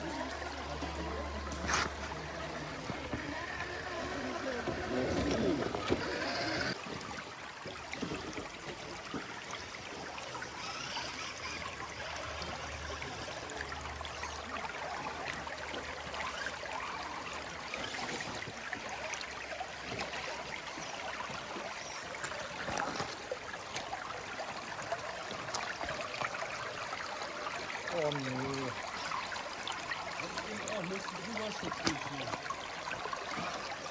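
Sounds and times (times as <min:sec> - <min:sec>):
stream trickling over rocks: 0:00.0 - 0:33.9.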